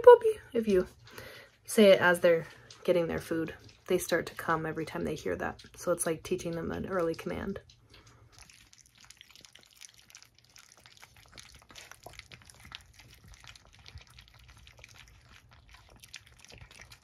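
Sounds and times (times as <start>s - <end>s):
puppies lapping wet food: 0.6s - 17.0s.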